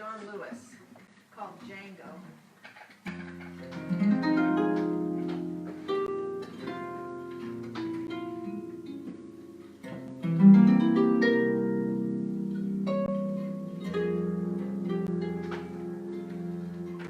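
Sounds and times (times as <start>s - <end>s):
jazz harp playing: 3.1s - 17.0s.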